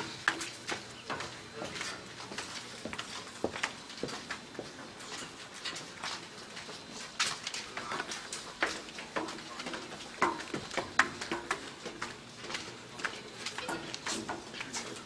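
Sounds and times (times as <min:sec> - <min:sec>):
footsteps climbing stairs: 0:00.0 - 0:15.0.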